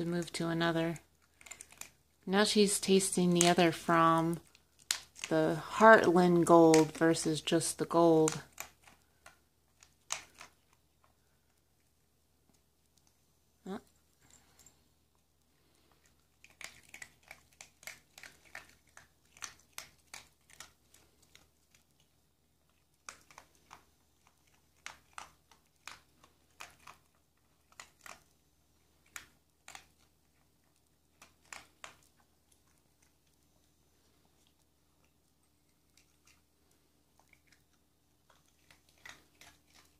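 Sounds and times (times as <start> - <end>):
dog chewing dry kibble: 0.0 - 12.0, 14.2 - 39.9.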